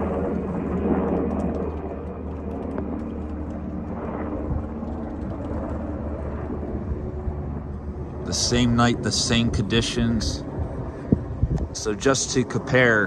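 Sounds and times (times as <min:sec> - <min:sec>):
helicopter drone overhead: 0:00.0 - 0:13.0.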